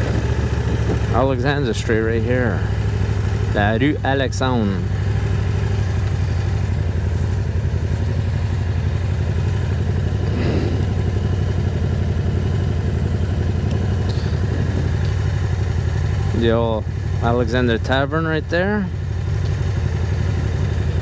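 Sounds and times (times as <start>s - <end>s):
motorcycle engine cruising: 0.0s - 21.0s
road and wind noise: 0.0s - 21.0s.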